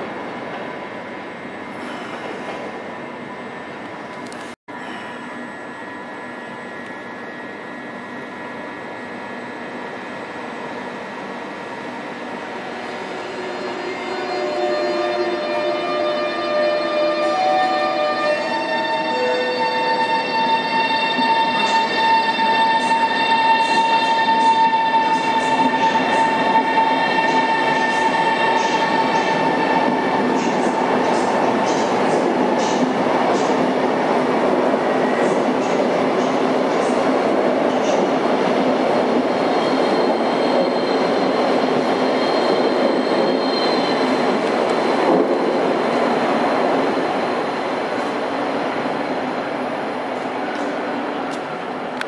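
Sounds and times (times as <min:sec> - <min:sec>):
train whine: 0:00.0 - 0:52.0
train wheels rumbling on rail: 0:10.0 - 0:52.0.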